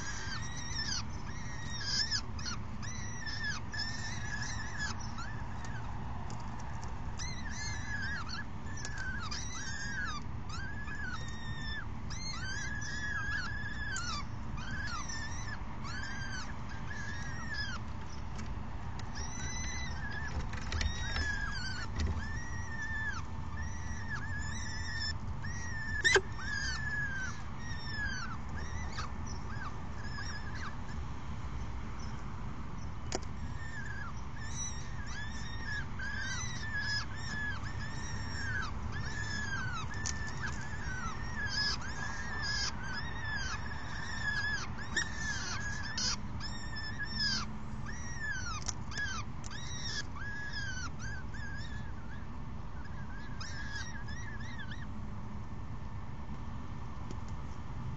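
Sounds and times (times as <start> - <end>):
falcons calling: 0.0 - 6.0, 6.7 - 18.1, 19.1 - 31.0, 33.4 - 54.9.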